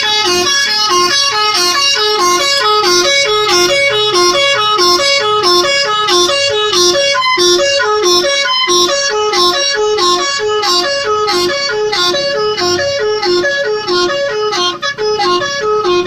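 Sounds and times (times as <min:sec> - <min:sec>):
musical horn playing melody: 0:00.0 - 0:16.0.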